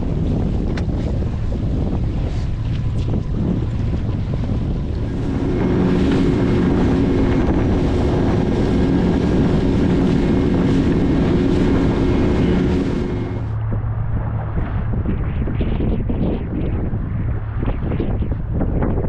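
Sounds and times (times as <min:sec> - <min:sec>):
boat motor droning: 0:00.0 - 0:18.8
wind buffeting microphone: 0:00.0 - 0:19.0.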